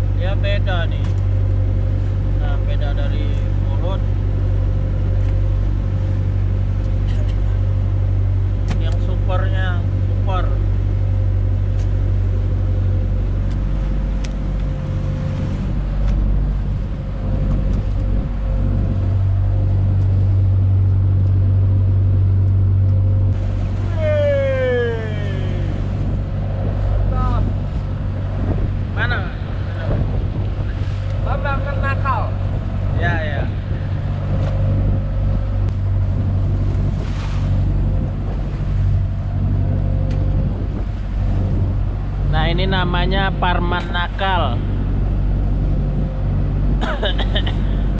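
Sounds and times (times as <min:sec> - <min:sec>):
boat engine humming: 0:00.0 - 0:47.9
water noise: 0:00.0 - 0:47.9
wind: 0:00.0 - 0:47.9.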